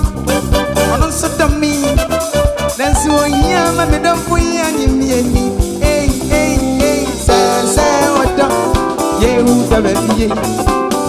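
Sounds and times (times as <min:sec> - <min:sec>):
band playing upbeat groove: 0:00.0 - 0:11.0.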